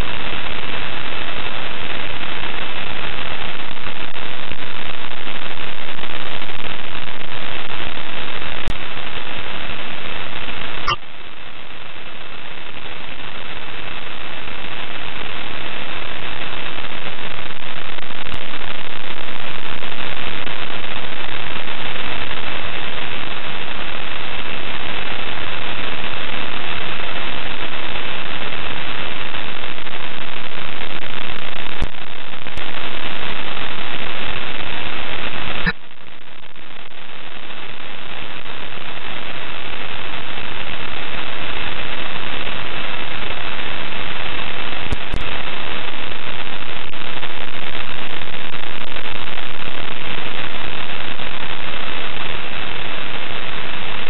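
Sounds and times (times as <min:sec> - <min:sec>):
radio static: 0:02.8 - 0:22.5, 0:27.5 - 0:54.0.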